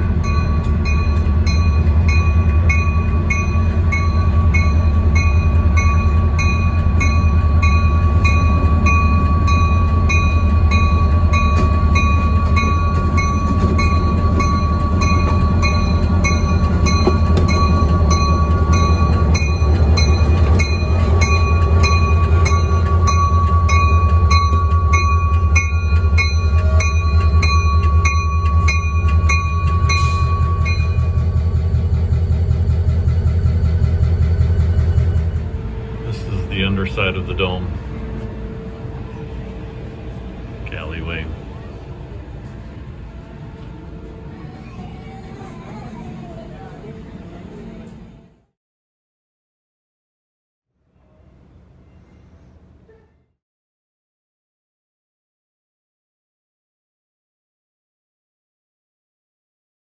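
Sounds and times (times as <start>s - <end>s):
diesel locomotive engine rumble: 0.0s - 48.6s, 50.8s - 53.4s.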